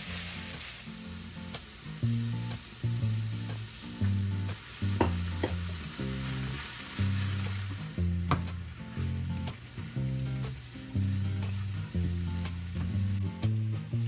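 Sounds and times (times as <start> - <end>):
background music with bass: 0.0 - 14.0
rice sizzling in frying pan: 0.0 - 14.0.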